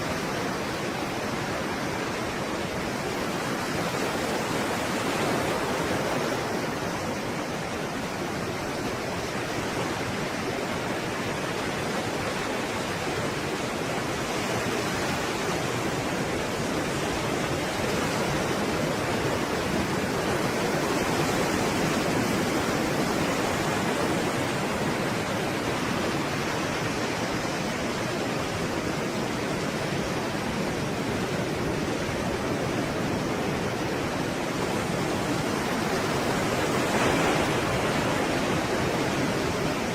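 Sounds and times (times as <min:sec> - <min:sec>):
stormy sea waves breaking: 0:00.0 - 0:39.9.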